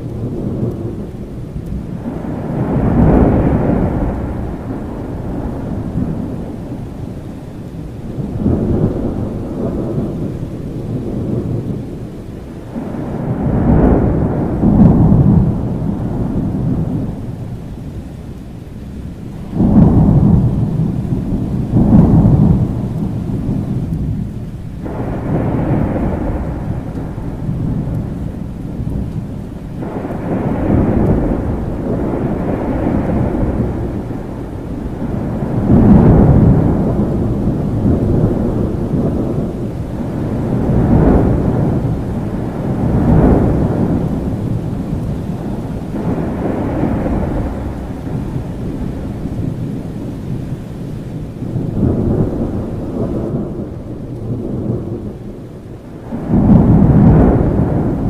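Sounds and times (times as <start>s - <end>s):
low thunder rolling: 0.0s - 58.0s
steady rain: 0.0s - 58.0s.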